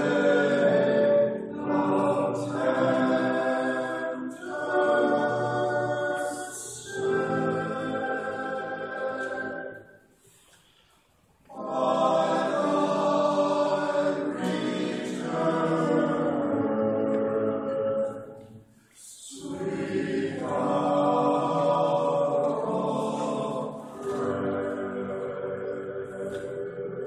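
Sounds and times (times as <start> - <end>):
men's choir singing: 0.0 - 10.0, 11.5 - 27.0.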